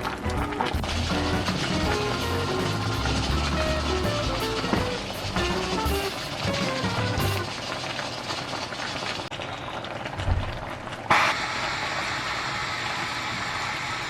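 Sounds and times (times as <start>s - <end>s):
food bubbling in a pot: 0.8s - 14.0s.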